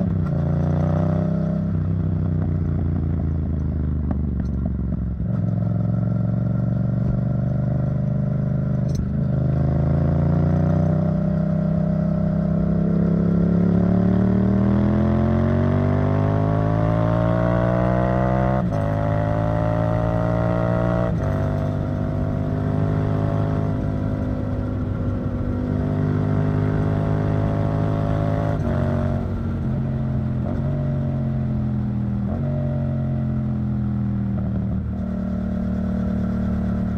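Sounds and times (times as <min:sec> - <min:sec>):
motorcycle engine revving: 0:04.4 - 0:36.9.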